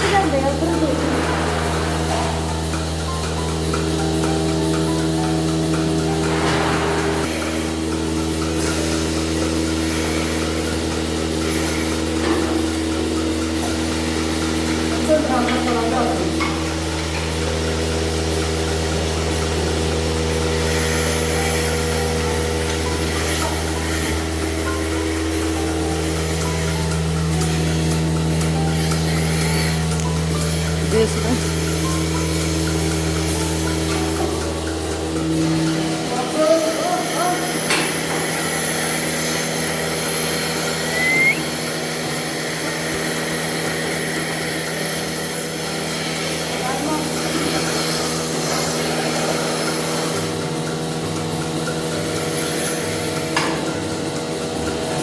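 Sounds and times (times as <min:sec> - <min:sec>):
milking pump humming: 0:00.0 - 0:55.0.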